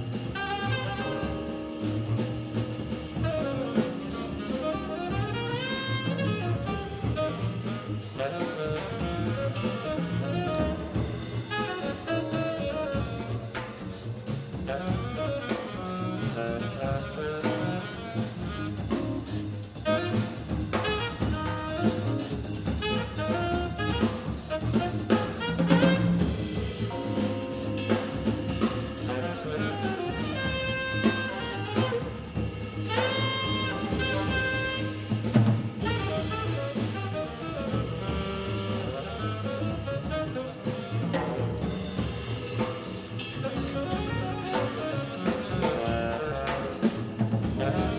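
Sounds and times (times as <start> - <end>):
double bass: 0.0 - 47.9
drum kit: 0.0 - 47.9
piano: 0.0 - 47.9
tenor saxophone: 0.0 - 47.9.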